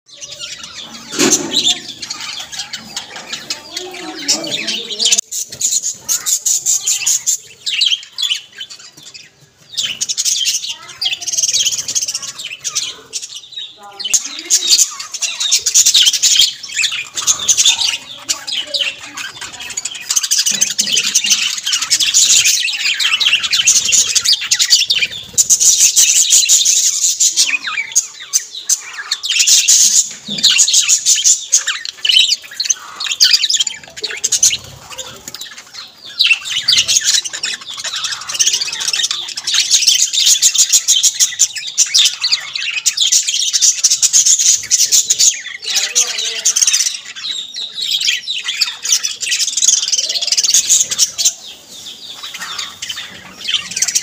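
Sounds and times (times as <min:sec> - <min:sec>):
budgerigars chattering and chirping: 0:00.1 - 0:54.0.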